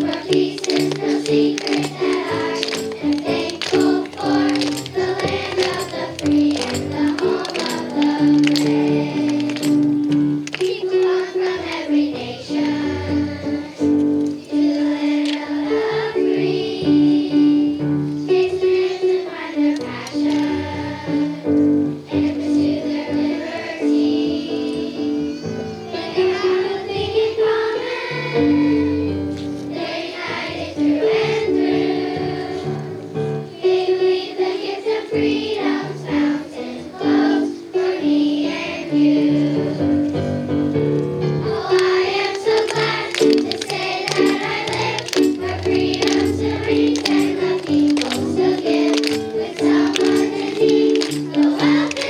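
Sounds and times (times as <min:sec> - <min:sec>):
children's choir singing: 0:00.0 - 0:52.0
musical accompaniment: 0:00.0 - 0:52.0.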